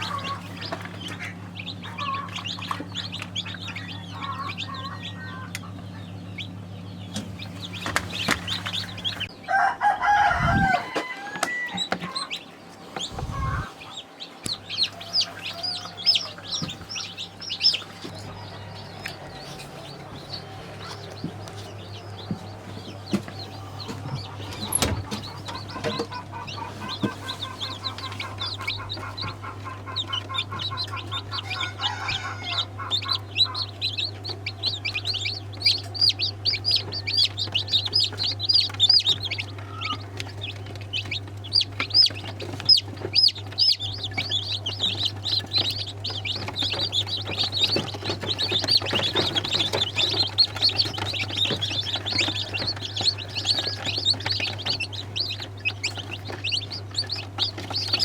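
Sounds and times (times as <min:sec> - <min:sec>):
steady low hum: 0:00.0 - 0:11.0, 0:11.7 - 0:58.0
chickens clucking: 0:00.0 - 0:58.0.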